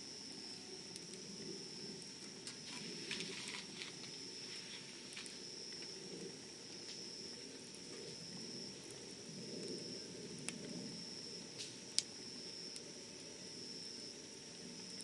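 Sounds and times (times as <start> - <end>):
campfire burning: 0.0 - 15.0
fire crackles: 0.0 - 15.0.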